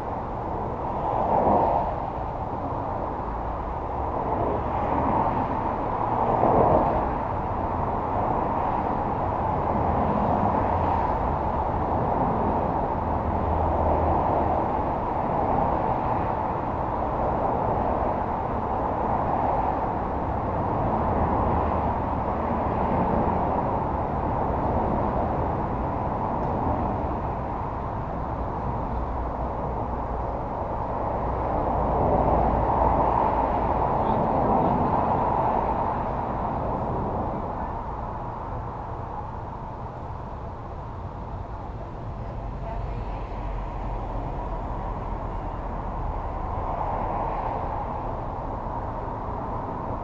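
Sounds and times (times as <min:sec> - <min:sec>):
muffled vehicle rumble and hiss: 0:00.0 - 0:50.0.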